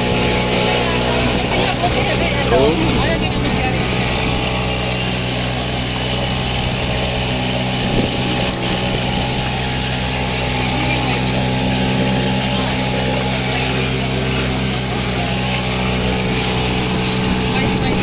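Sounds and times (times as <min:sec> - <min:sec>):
boat engine humming: 0:00.0 - 0:18.0
water rushing: 0:00.0 - 0:18.0.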